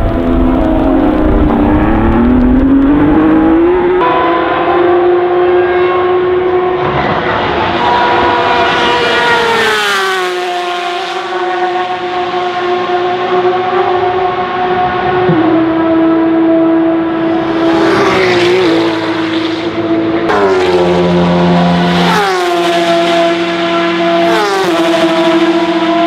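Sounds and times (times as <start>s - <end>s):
race car engine passing: 0.0s - 26.0s.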